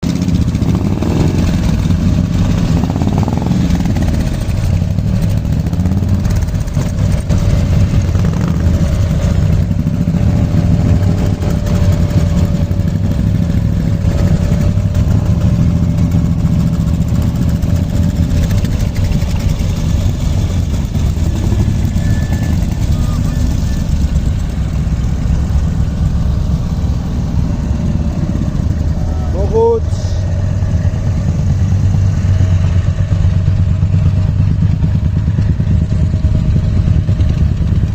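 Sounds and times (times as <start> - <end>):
road noise: 0.0 - 37.9
vehicle engine running: 0.0 - 37.9.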